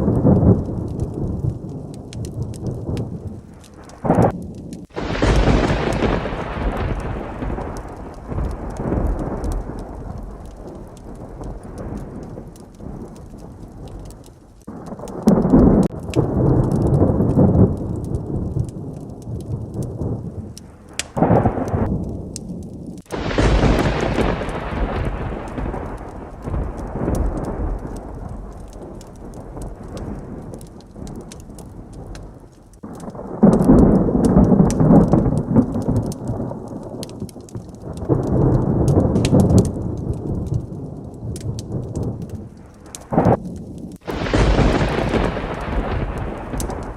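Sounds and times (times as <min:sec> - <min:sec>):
sharp thunderclap: 0:00.0 - 0:46.9
steady rain: 0:00.0 - 0:46.9
thunder rumbling: 0:00.0 - 0:46.9.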